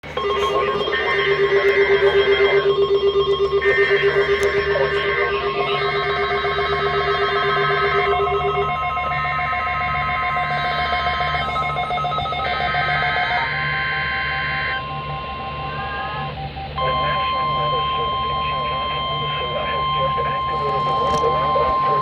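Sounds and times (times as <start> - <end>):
low pulsing hum: 0.0 - 22.0
steady tones: 0.0 - 22.0
warbling digital tone bursts: 0.0 - 22.0.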